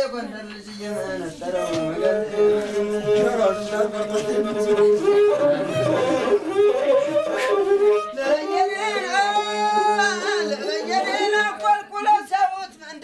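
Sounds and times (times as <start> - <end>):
string instrument playing: 0.0 - 11.0.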